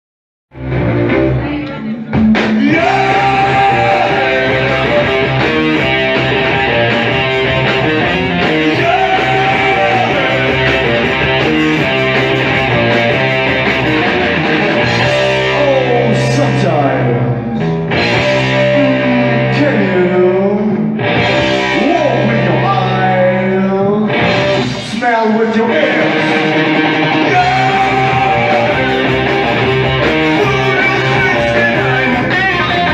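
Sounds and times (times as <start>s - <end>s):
rock band playing live: 0.5s - 32.9s.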